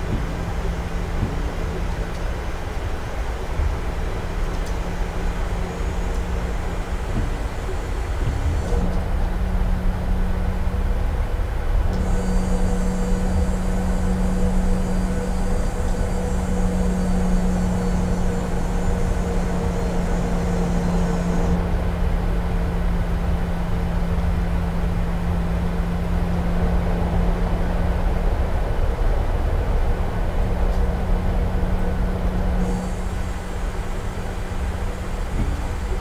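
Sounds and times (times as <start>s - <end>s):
aircraft cabin engine rumble: 0.0s - 36.0s.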